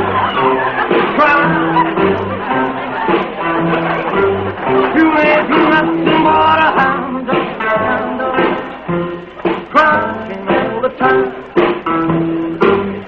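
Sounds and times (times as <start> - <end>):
drums steady beat: 0.0 - 13.0
electric guitar: 0.0 - 13.0
man singing: 1.1 - 2.6, 3.4 - 13.0.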